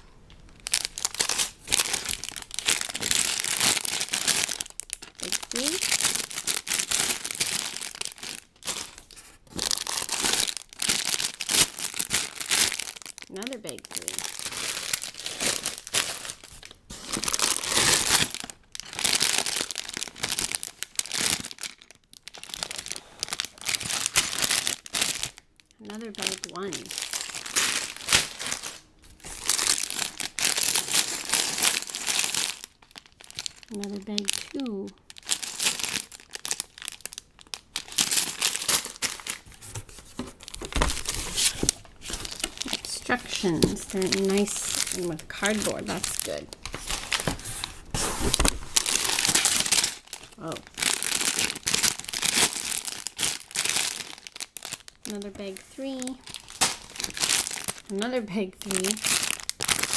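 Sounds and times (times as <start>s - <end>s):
plastic bags crinkling: 0.0s - 59.9s.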